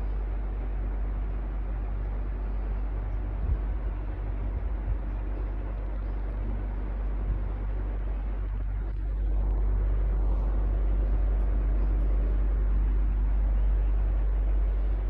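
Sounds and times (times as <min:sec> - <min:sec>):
electric fan whooshing: 0:00.0 - 0:15.0.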